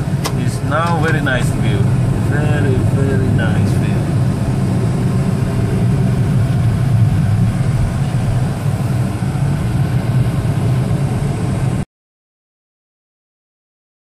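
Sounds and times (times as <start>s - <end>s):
car engine and road noise: 0.0s - 11.8s.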